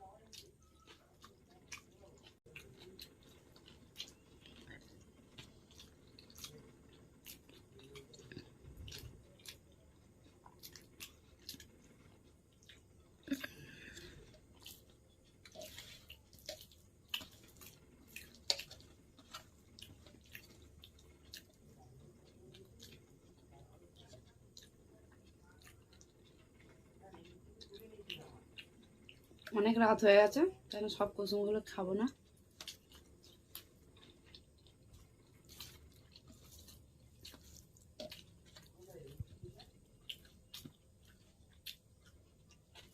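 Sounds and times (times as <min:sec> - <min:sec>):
chewing and slurping noodles: 0:00.0 - 0:29.6, 0:32.1 - 0:42.9.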